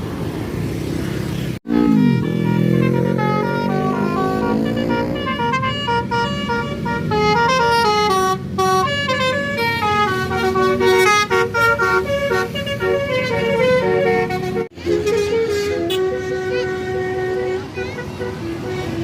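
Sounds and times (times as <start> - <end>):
low rumble of vehicles: 0.0 - 19.0
bus horn playing a tune: 1.6 - 19.0.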